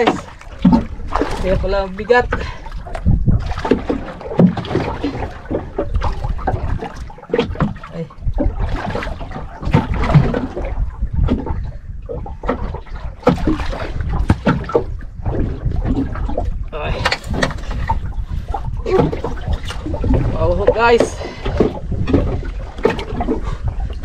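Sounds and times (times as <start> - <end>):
knocks and splashes on hull: 0.0 - 24.0
rumble of wind and water: 0.0 - 24.0.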